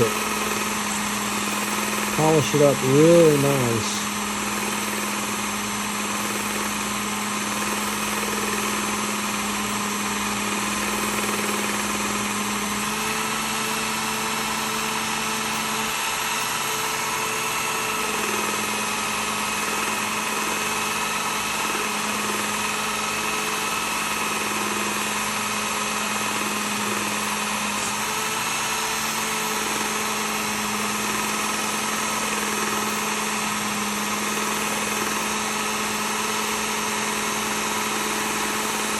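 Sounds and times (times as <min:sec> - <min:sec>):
belt sharpener motor hum: 0:00.0 - 0:38.9.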